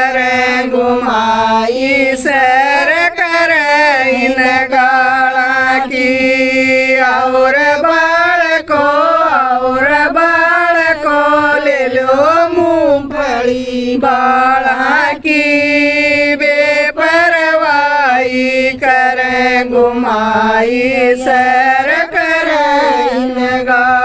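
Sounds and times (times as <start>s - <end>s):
women singing folk song: 0.0s - 24.0s.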